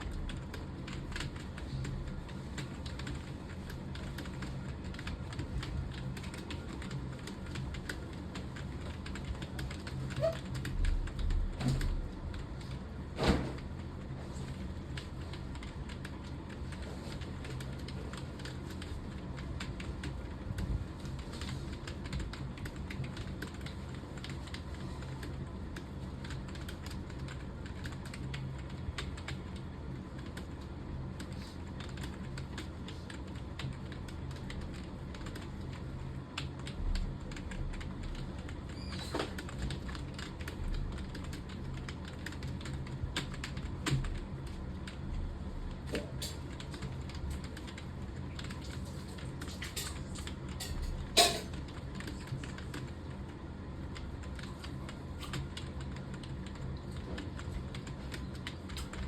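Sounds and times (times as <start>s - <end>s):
typing on computer keyboard: 0.0s - 12.8s, 14.4s - 30.6s, 31.2s - 45.1s, 45.8s - 53.0s, 53.8s - 59.0s
low steady hum: 0.0s - 59.0s.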